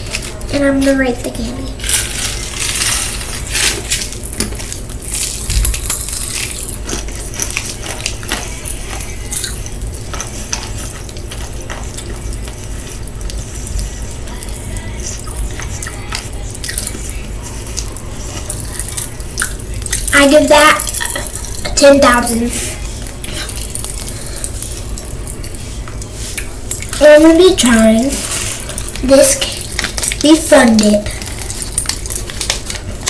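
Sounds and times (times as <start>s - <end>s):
chewing and sucking candy: 1.8s - 21.7s, 22.5s - 27.0s, 28.1s - 33.0s.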